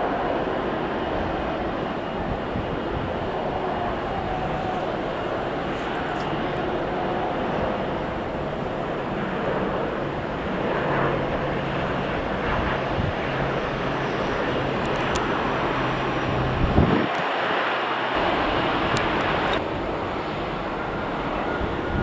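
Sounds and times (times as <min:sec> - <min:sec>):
airliner engines droning: 0:00.0 - 0:22.0.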